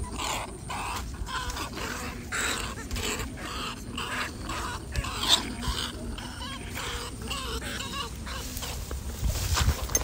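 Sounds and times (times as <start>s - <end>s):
rat squealing: 0.0s - 8.7s.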